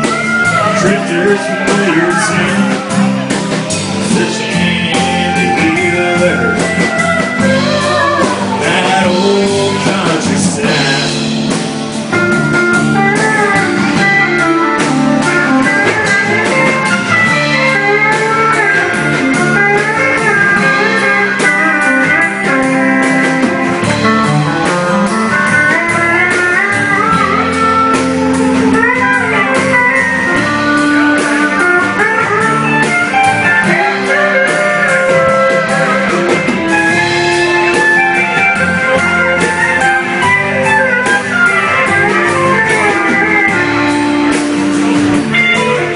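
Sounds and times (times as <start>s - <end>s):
bluesy lead guitar: 0.0s - 45.9s
country band playing: 0.0s - 45.9s.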